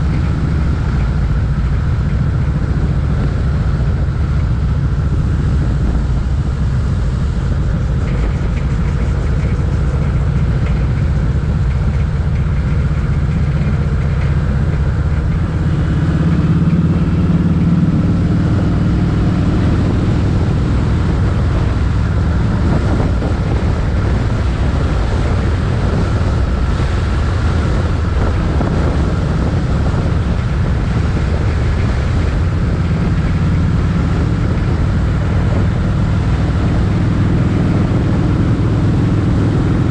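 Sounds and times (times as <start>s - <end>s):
motorcycle engine running: 0.0s - 39.9s
wind rushing: 0.0s - 39.9s.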